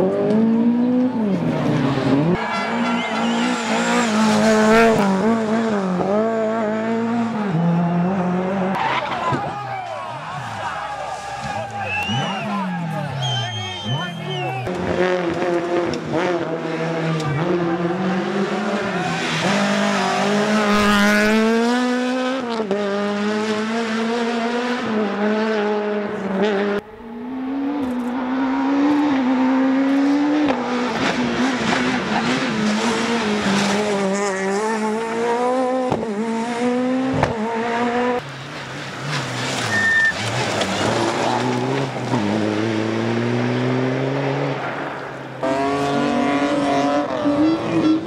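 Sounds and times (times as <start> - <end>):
rally car engine revving: 0.0 - 48.0.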